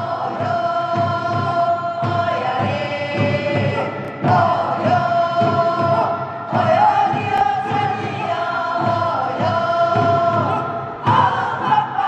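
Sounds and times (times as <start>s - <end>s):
barrel drum beat: 0.0s - 12.0s
mixed chorus singing folk song: 0.0s - 12.0s.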